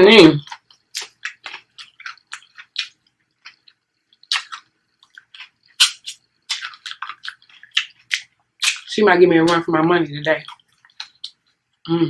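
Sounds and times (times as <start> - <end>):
person chewing and lip-smacking: 0.4 - 9.6, 10.4 - 11.6.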